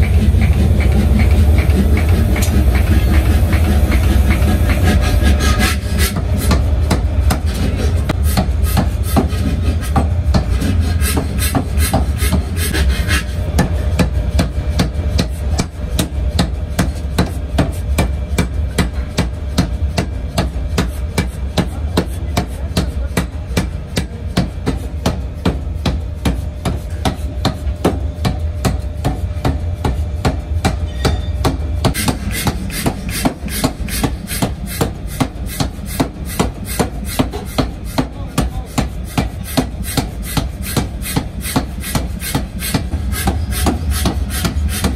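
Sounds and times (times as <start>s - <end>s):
machine deep steady hum: 0.0s - 44.9s
power hammer pounding steel: 0.0s - 44.9s.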